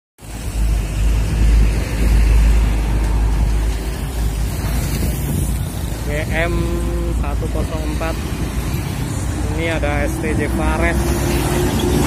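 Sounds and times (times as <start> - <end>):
heavy trucks passing: 0.2 - 12.0
motorcycles passing: 0.2 - 12.0
road rumble with low drone: 0.2 - 12.0.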